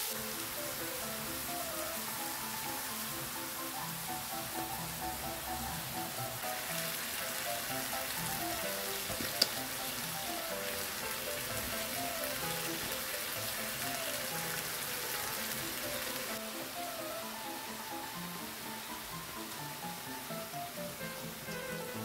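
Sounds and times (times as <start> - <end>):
food sizzling in frying pan: 0.0 - 22.0
gentle background music: 0.0 - 22.0.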